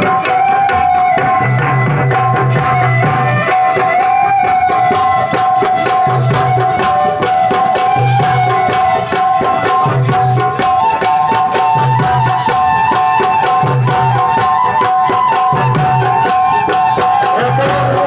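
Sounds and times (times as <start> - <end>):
frame drums beaten fast: 0.0 - 18.0
held melody line: 0.0 - 18.0.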